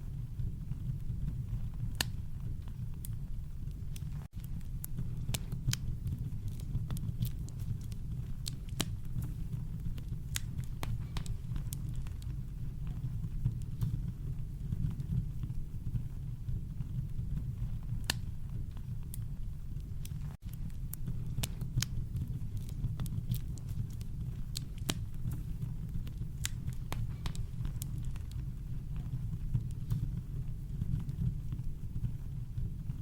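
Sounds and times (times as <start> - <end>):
campfire crackling: 0.1 - 33.0.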